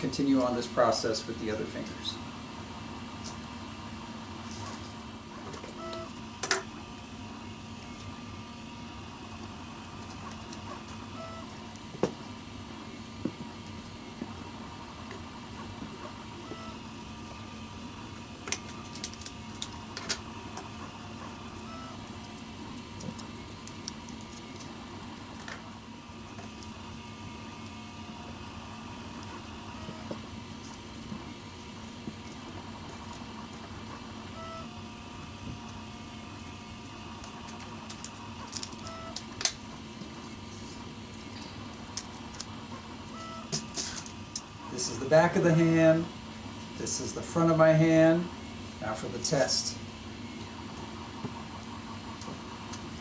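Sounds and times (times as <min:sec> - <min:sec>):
low room hum: 0:00.0 - 0:53.0.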